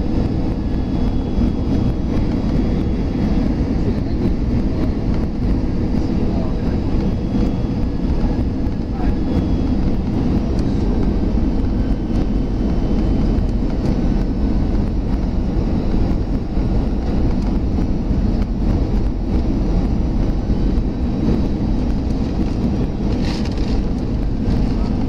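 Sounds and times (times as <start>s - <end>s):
jet engine and airflow rumble: 0.0s - 25.0s.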